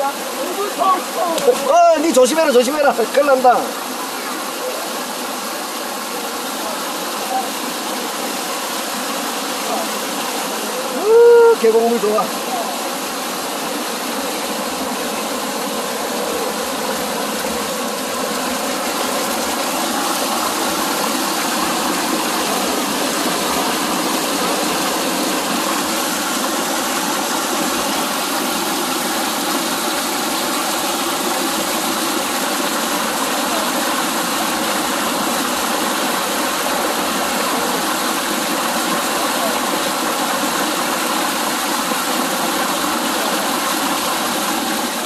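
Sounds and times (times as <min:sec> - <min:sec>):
stream rushing over boulders: 0:00.0 - 0:45.0.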